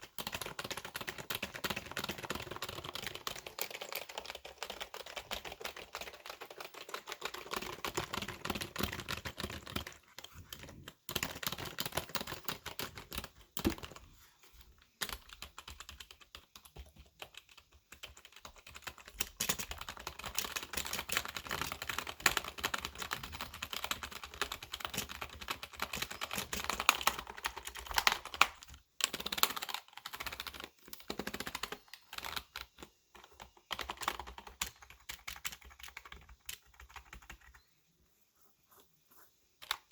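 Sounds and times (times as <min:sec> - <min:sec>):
fast typing on keyboard: 0:00.0 - 0:14.1, 0:14.7 - 0:37.7.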